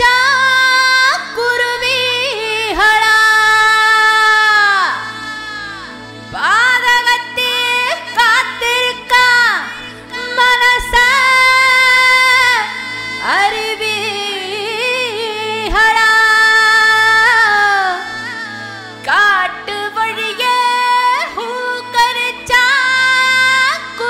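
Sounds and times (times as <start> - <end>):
keyboard drone: 0.0 - 24.0
person singing long wordless notes: 0.0 - 24.0.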